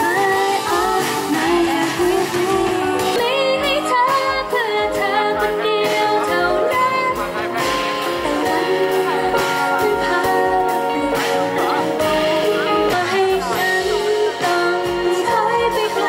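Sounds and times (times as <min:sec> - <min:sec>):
acoustic and electric guitar: 0:00.0 - 0:16.0
woman singing: 0:00.0 - 0:16.0.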